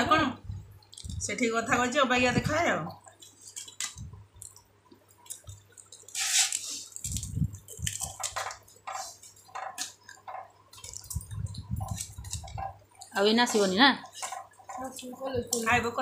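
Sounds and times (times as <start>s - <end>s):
hands squishing rice: 3.1s - 16.0s.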